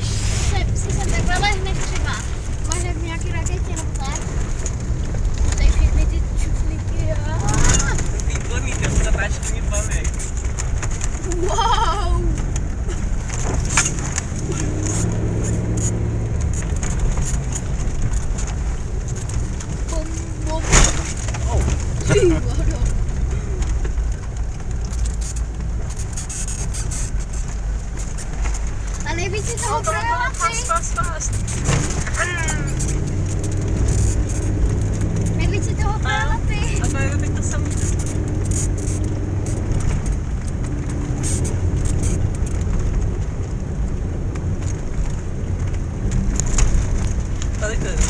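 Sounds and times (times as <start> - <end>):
car engine and road rumble: 0.0 - 48.0
mud spattering from wheels: 0.0 - 48.0
rattles and clicks: 0.5 - 48.0.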